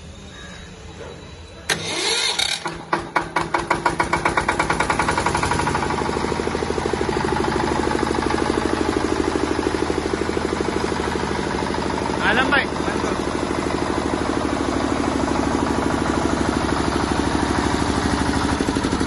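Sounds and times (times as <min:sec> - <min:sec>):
diesel generator engine starting: 0:01.0 - 0:19.0.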